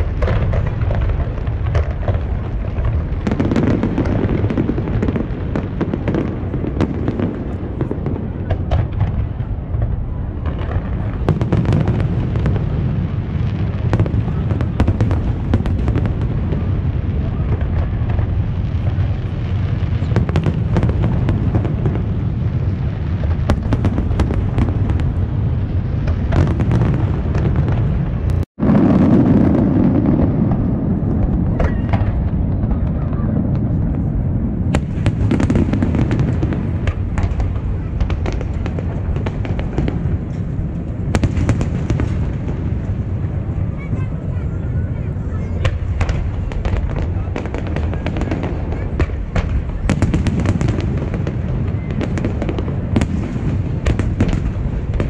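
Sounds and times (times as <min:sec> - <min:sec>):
fireworks bangs and crackles: 0:00.0 - 0:55.0
rumble of fireworks booms: 0:00.0 - 0:55.0.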